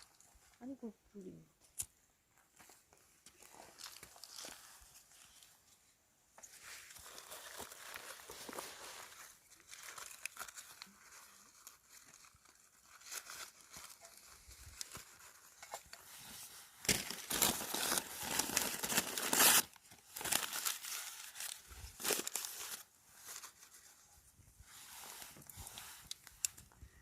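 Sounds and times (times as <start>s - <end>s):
crinkling and rustling: 1.6s - 27.0s.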